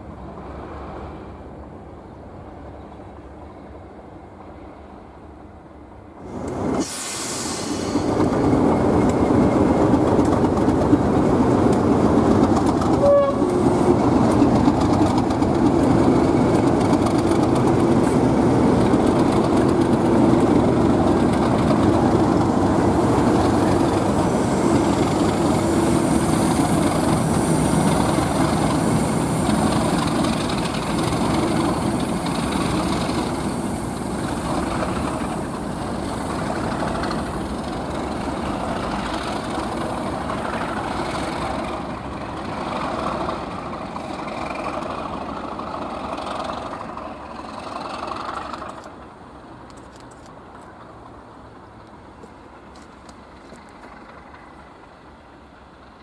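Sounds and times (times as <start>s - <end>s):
diesel locomotive engines: 0.0s - 56.0s
train wheels on rails: 0.0s - 56.0s.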